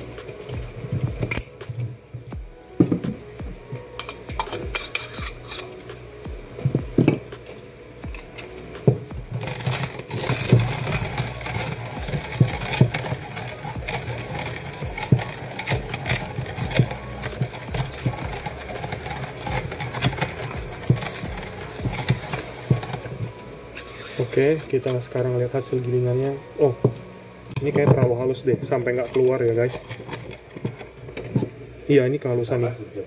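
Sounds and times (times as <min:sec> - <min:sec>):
coffee grinder crunching beans: 0:00.0 - 0:02.0, 0:02.7 - 0:27.6.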